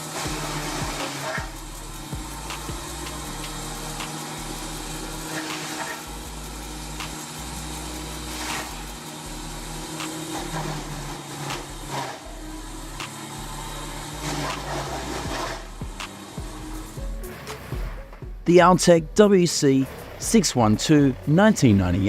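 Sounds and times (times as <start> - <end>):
wood planer cutting wood: 0.0 - 18.2, 19.7 - 22.0
gasoline engine running under load: 0.0 - 22.0.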